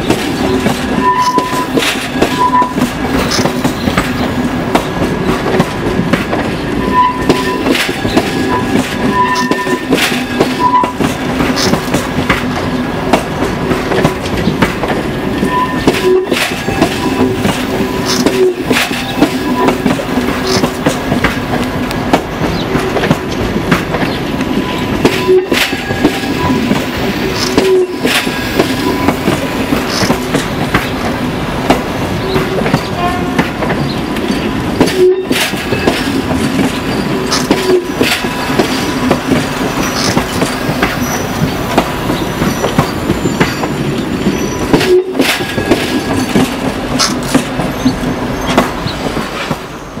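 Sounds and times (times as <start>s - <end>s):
electric train passing: 0.0s - 50.0s
wheels clicking over rail joints: 0.0s - 50.0s.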